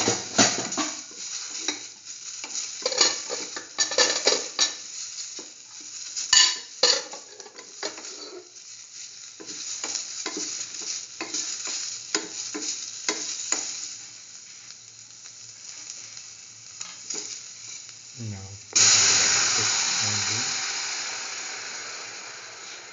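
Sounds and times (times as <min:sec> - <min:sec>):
vegetables sizzling in oil: 0:00.0 - 0:22.9.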